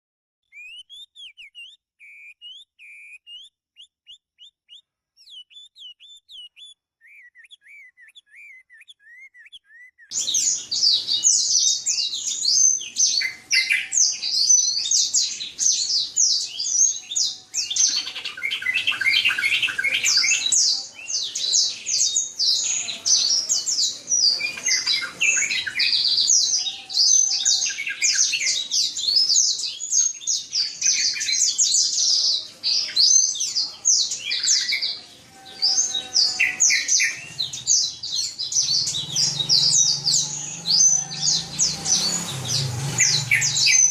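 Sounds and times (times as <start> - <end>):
canary singing chirps and trills: 0.4 - 43.9.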